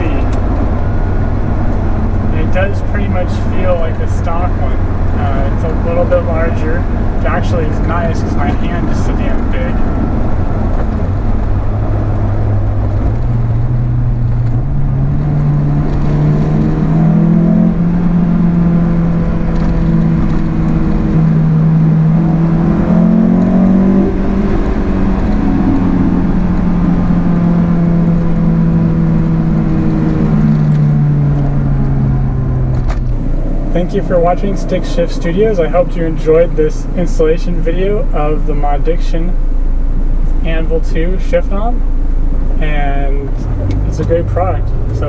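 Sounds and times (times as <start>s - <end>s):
car engine running: 0.0s - 45.0s
road rumble: 0.0s - 45.0s.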